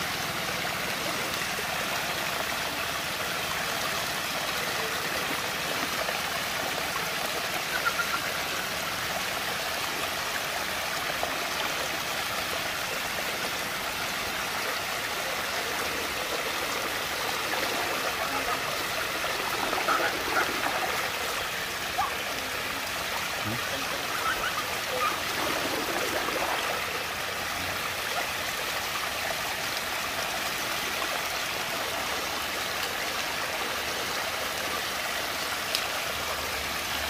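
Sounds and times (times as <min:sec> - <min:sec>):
water swirling and rushing: 0:00.0 - 0:37.0.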